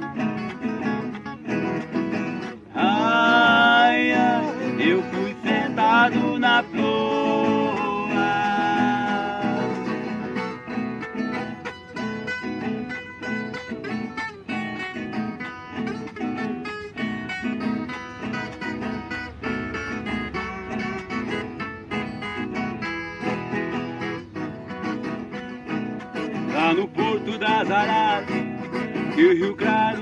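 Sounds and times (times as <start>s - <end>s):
plucked acoustic strings melody: 0.0s - 30.0s.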